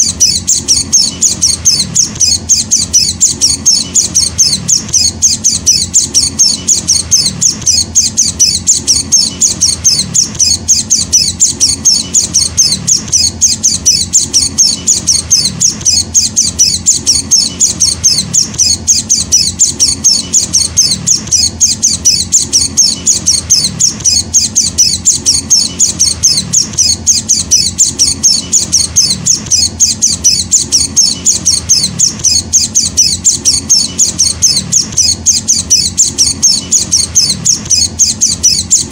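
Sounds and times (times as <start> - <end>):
bird chick chirping: 0.0 - 38.9.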